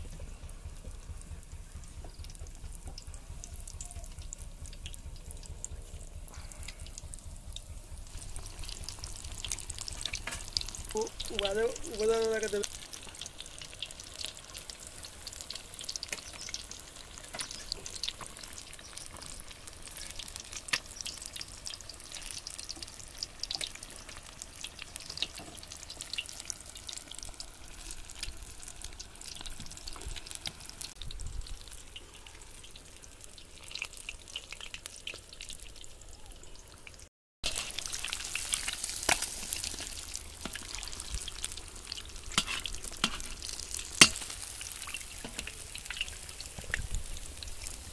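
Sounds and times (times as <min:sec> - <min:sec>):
pakoras sizzling in oil: 0:00.0 - 0:47.9.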